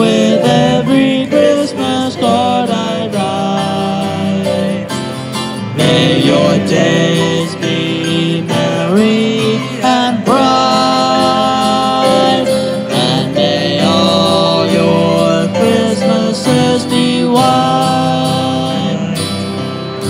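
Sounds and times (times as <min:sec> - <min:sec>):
electric keyboard: 0:00.0 - 0:20.0
sliding held melody notes: 0:00.0 - 0:20.0
strummed acoustic guitar: 0:00.0 - 0:20.0.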